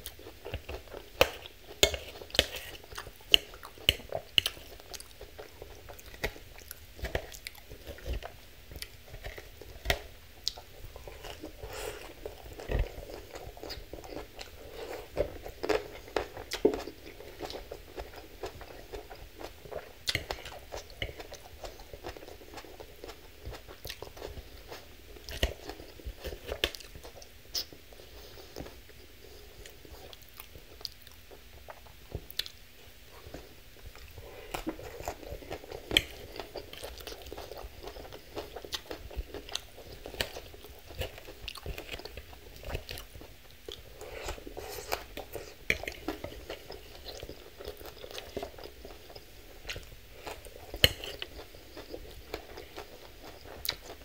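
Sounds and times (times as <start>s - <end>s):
chewing and crunching salad: 0.0s - 54.0s.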